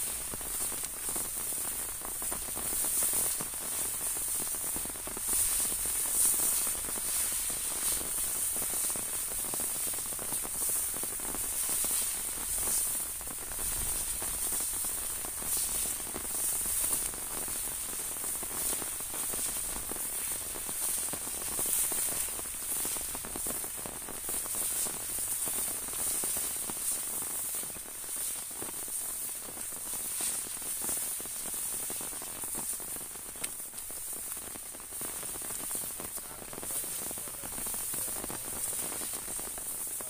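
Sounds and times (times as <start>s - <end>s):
hiss of rain falling: 0.0s - 40.0s
rain drumming on an umbrella: 0.0s - 40.0s.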